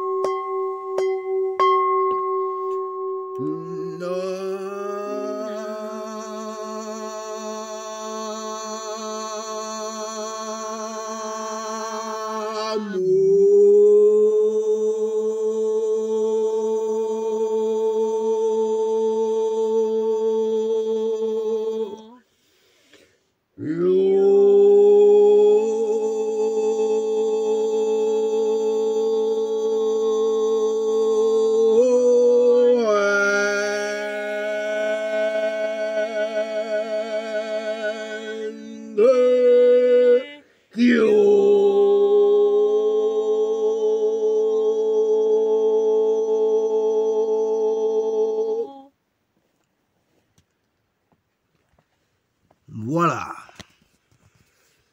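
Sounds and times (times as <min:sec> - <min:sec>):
person chanting with overtones: 0:03.4 - 0:22.3, 0:23.6 - 0:49.0, 0:52.7 - 0:53.7.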